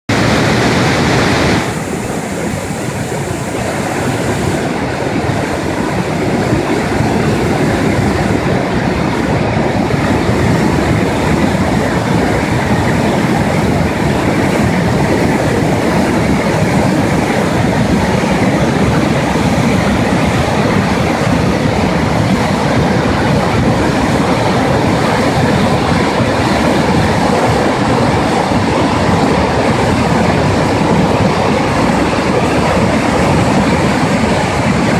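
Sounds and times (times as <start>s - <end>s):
white water rushing loudly: 0.1s - 34.9s.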